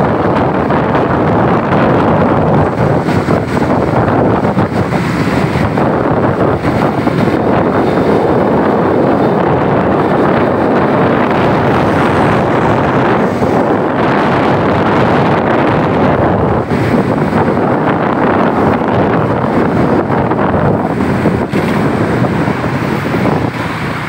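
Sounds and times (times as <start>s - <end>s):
road traffic: 0.0s - 24.0s
wind buffeting microphone: 0.0s - 24.0s.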